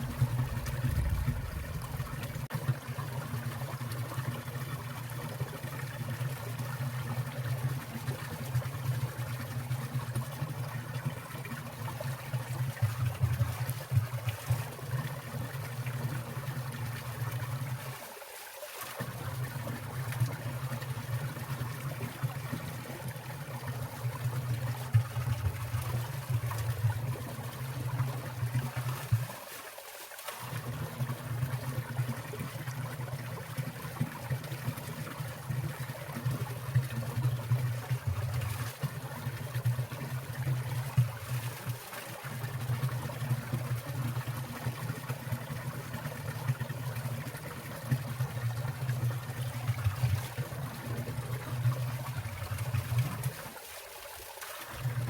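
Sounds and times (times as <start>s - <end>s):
stream trickling and splashing: 0.0s - 55.0s.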